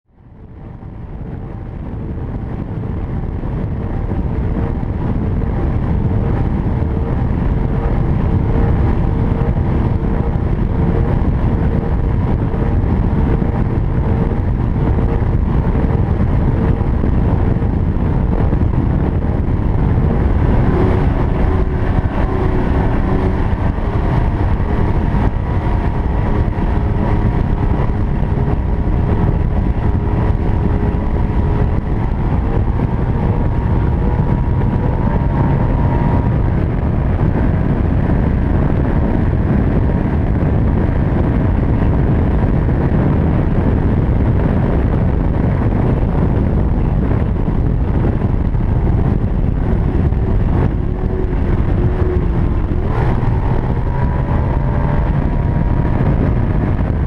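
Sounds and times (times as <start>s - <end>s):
rush of wind and water: 0.1s - 57.0s
speedboat engine drone: 0.1s - 57.0s.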